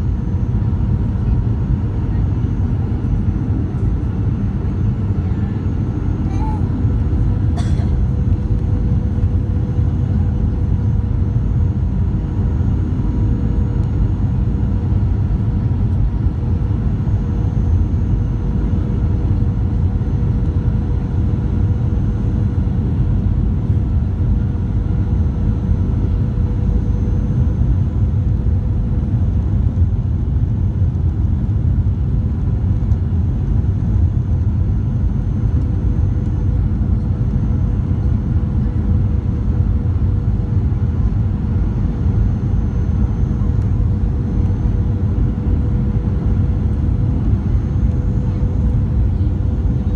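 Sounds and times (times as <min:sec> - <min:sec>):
airliner cabin noise: 0:00.0 - 0:49.9
faint steady hum: 0:00.0 - 0:49.9.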